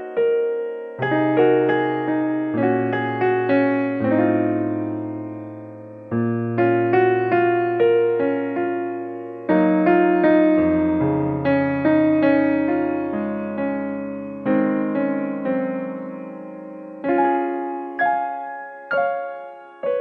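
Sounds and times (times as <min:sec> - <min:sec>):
calm piano music: 0:00.0 - 0:20.0.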